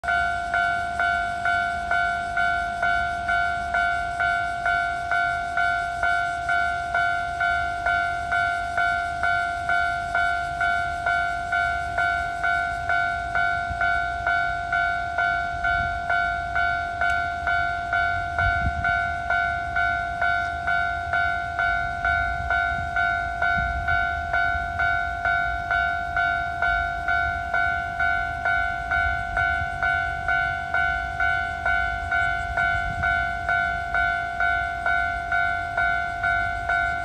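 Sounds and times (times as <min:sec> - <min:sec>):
level-crossing warning bell: 0:00.0 - 0:37.0.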